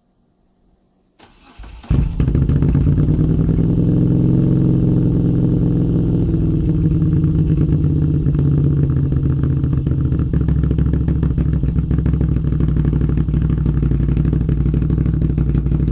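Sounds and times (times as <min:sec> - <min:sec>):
motorcycle engine idling: 0:01.8 - 0:15.9.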